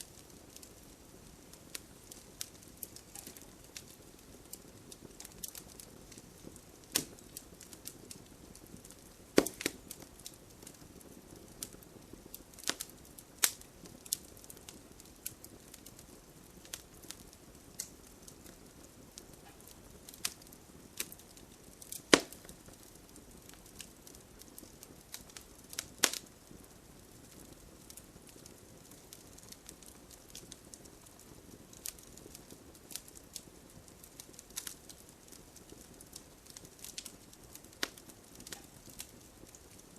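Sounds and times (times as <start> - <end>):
campfire pops and snaps: 0.0 - 39.9
loud fire cracks: 0.0 - 39.9
soft hiss of burning: 0.0 - 39.9.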